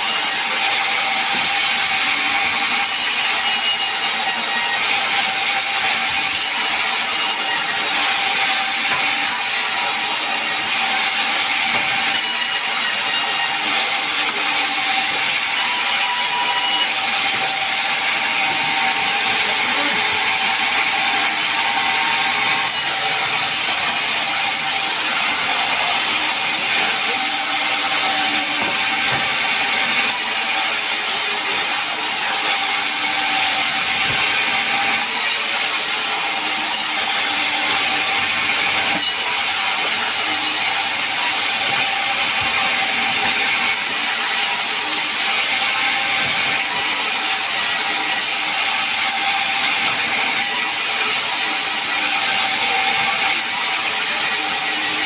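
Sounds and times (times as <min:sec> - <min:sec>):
saw cutting timber: 0:00.0 - 0:55.0.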